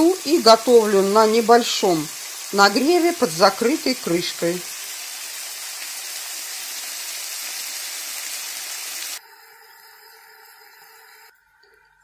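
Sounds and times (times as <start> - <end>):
chicken sizzling in oil: 0.0 - 11.3.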